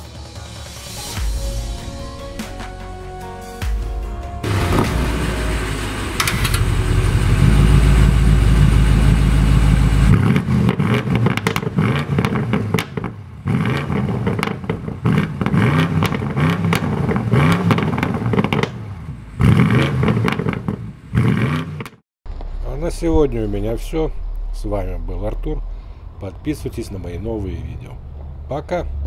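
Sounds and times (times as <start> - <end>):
car engine revving with crackles: 4.4 - 29.0.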